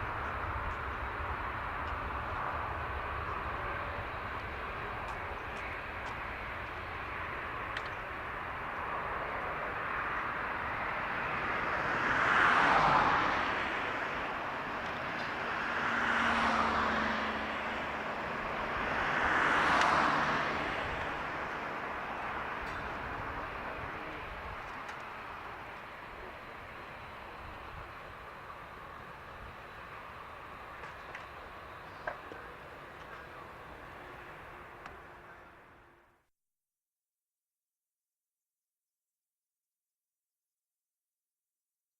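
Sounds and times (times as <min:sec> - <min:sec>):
distant jet engines roaring: 0:00.0 - 0:36.2.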